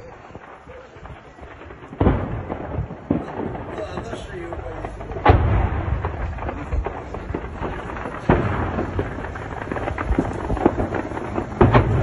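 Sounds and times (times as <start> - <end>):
explosion booms with rumble: 0.0 - 12.0.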